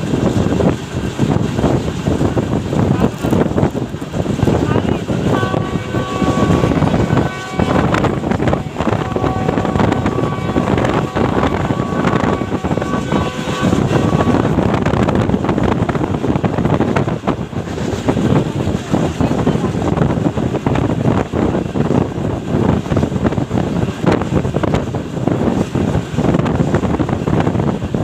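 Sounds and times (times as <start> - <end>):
train wheels rumbling on track: 0.0 - 28.0
wind buffeting microphone: 0.0 - 28.0.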